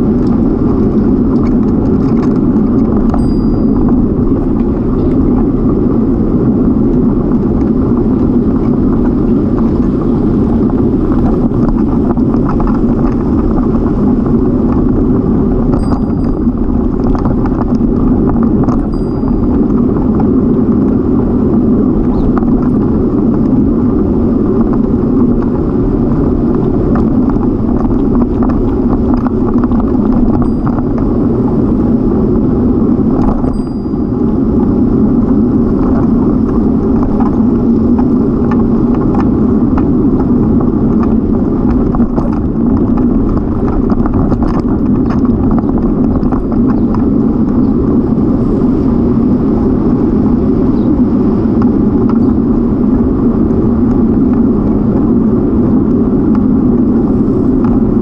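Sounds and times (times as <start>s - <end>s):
bicycle tyres rolling on pavement: 0.0s - 58.0s
wind on microphone: 0.0s - 58.0s.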